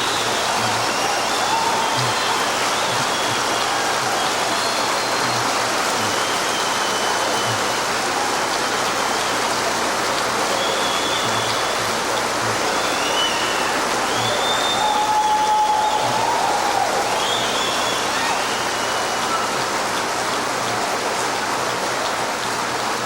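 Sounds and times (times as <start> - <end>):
whistles from audience: 0.0 - 20.0
audience applauding and cheering: 0.0 - 23.0.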